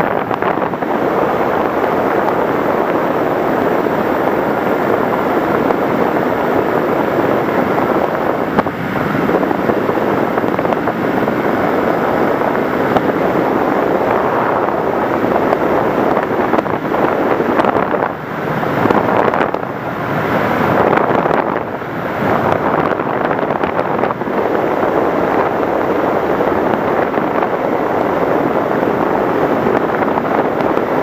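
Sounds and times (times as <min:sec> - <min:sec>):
rushing wind: 0:00.0 - 0:31.0.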